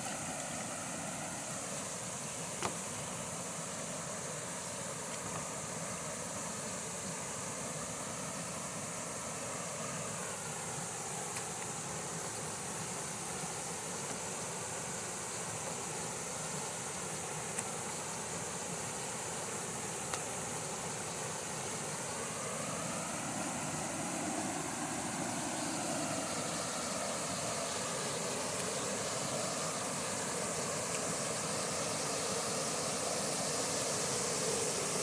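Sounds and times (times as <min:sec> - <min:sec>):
waterfall rushing water: 0:00.0 - 0:35.0.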